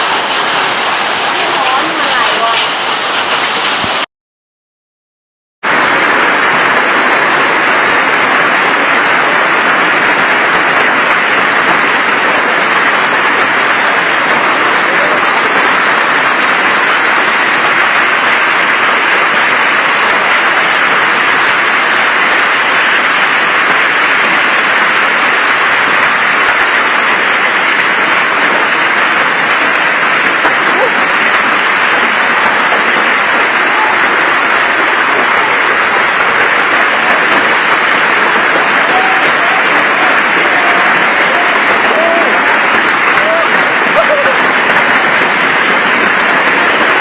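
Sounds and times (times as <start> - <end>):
hail and heavy rain pelting: 0.0 - 4.1, 5.6 - 47.0.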